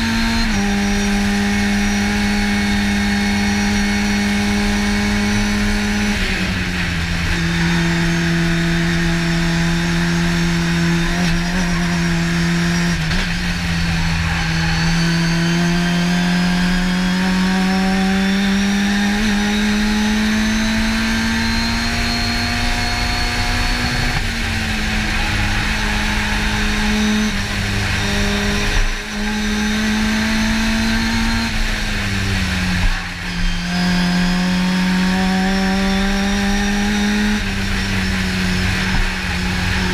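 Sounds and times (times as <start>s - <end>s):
race car engine under load: 0.0s - 39.9s.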